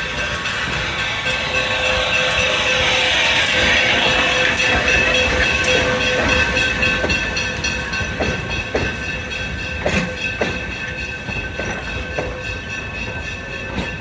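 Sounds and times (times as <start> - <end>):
high-pitched ringing squeal: 0.0 - 14.0
train wheels clicking over rail joints: 0.0 - 14.0.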